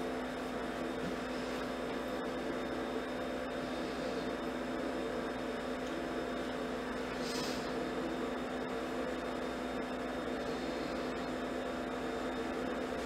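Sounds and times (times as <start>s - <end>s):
ice machine humming: 0.0s - 13.0s.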